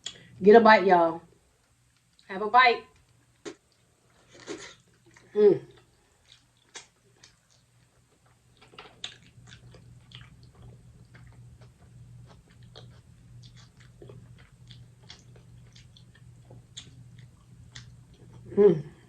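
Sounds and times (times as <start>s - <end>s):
low steady hum: 0.0s - 19.0s
chewing and mouth smacks: 3.0s - 18.4s.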